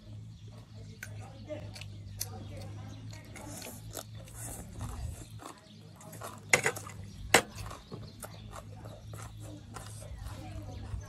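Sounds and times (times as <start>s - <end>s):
chewing crunchy vegetables: 0.0s - 11.0s.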